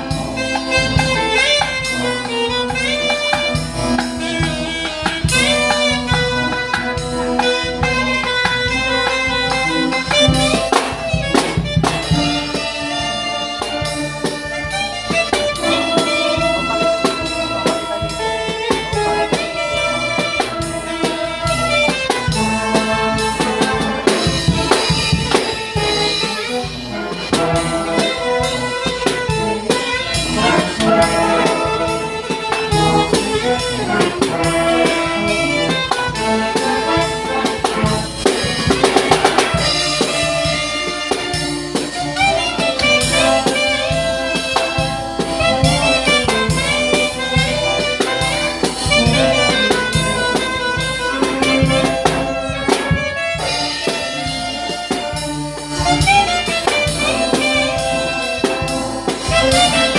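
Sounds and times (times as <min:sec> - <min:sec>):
brass band accompaniment: 0:00.0 - 0:59.9
drum beats: 0:00.0 - 0:59.9
saxophone solo: 0:00.0 - 0:59.9.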